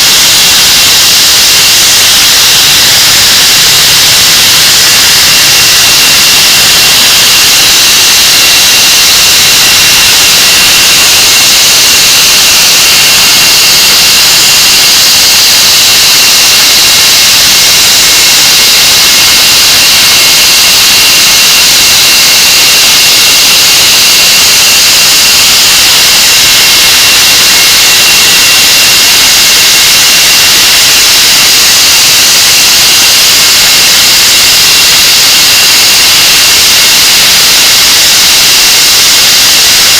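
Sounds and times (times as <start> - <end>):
high jet whine: 0.0 - 39.9.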